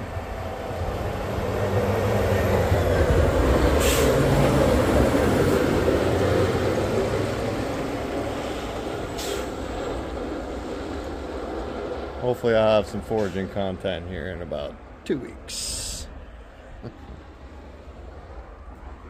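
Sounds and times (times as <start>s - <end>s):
diesel truck engine passing: 0.0s - 19.0s.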